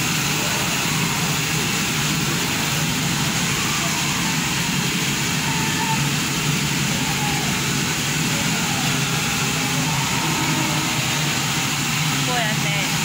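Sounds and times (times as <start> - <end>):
steam locomotive moving slowly: 0.0 - 13.0.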